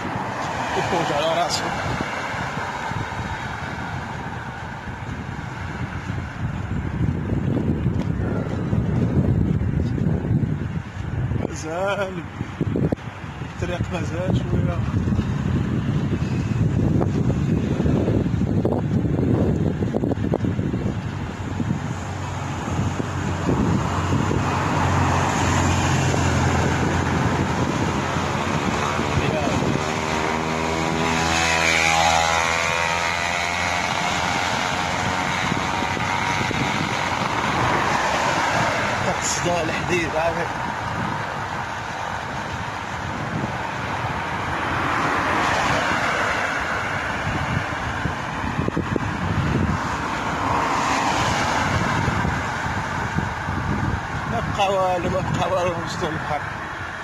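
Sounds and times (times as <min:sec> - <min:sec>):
vehicle passing close: 0:00.0 - 0:12.9, 0:13.5 - 0:57.0
road traffic rushing: 0:00.0 - 0:57.0
wind on microphone: 0:00.0 - 0:57.0.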